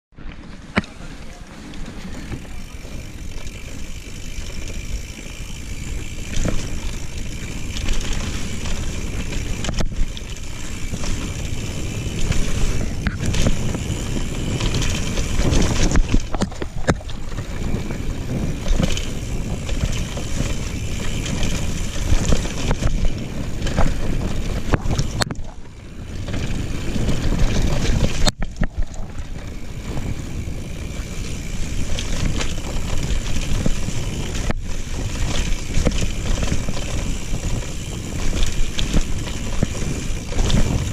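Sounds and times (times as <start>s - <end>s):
bike tyre rumble: 0.1s - 40.9s
wind: 0.1s - 40.9s
bike knocks and rattles: 0.5s - 40.9s.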